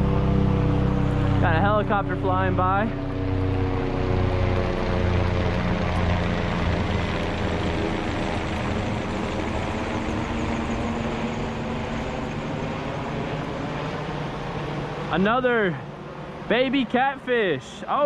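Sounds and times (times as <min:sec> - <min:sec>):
helicopter flying past: 0:00.0 - 0:18.0.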